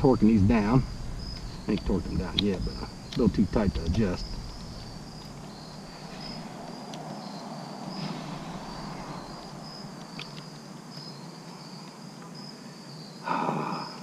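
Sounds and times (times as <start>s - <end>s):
low background hum: 0.0s - 12.7s
crickets chirping: 0.0s - 14.0s.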